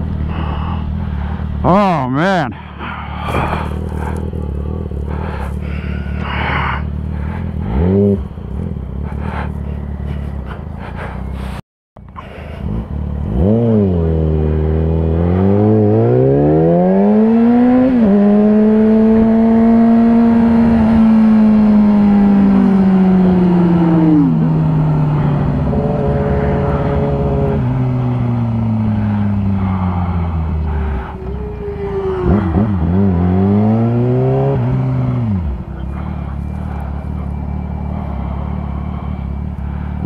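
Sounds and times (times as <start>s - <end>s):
motorcycle engine revving: 2.6s - 11.4s, 12.1s - 40.0s.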